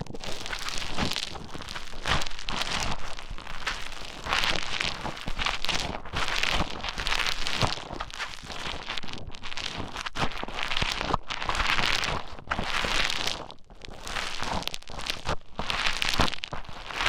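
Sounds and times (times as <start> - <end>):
foam crackling and squelching: 0.0 - 17.0.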